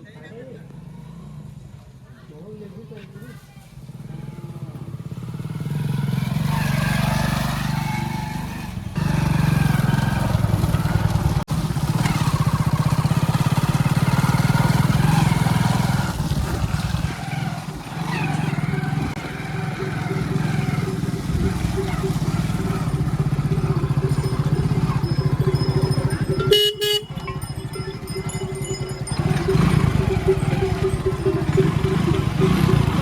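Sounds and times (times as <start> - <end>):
vehicle engine running: 2.8 - 33.0.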